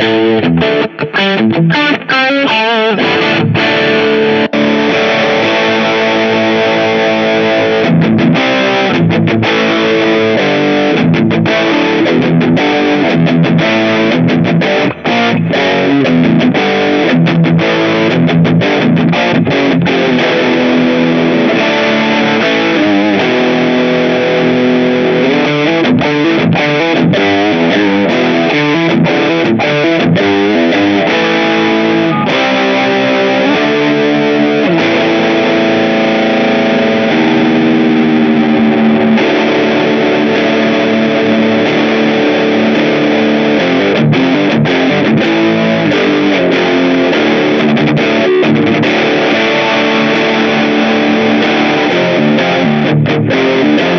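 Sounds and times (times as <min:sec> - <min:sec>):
distorted electric guitar: 0:00.0 - 0:53.9.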